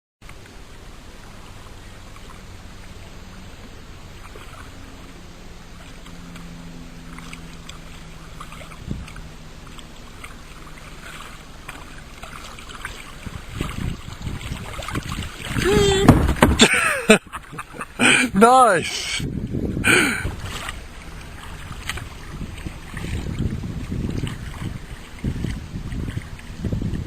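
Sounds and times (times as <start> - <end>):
paddle splashing and dripping: 0.2 - 27.0.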